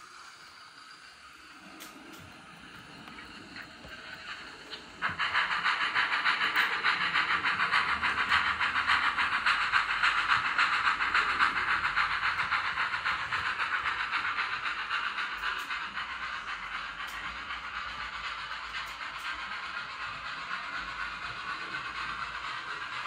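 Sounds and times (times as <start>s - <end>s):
model steam locomotive chuffing: 0.0s - 23.0s.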